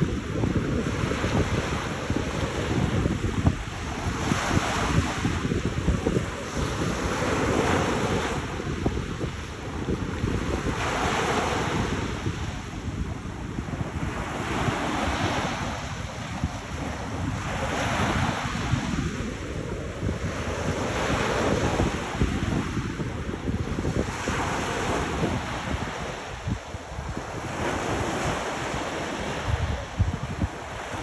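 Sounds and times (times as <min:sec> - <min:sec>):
small waves breaking on shore: 0:00.0 - 0:31.0
wind buffeting microphone: 0:00.0 - 0:31.0.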